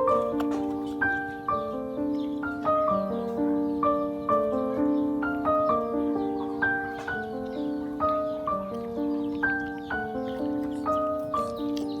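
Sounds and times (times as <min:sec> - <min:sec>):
light keyboard melody: 0:00.0 - 0:12.0.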